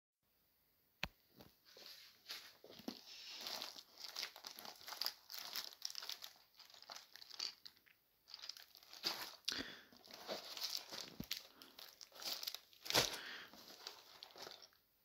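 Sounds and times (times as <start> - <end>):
plastic wrapping crinkling: 2.3 - 14.8.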